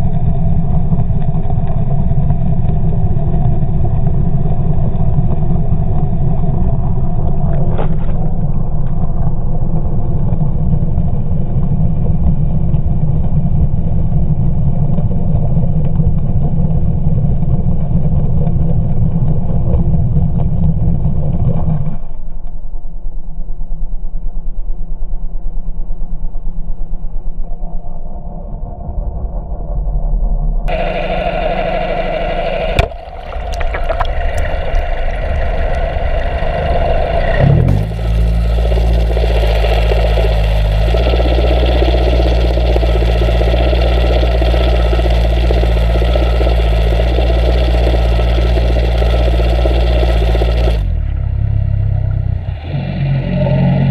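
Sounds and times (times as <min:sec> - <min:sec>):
muffled outboard motor underwater: 0:00.0 - 0:53.9.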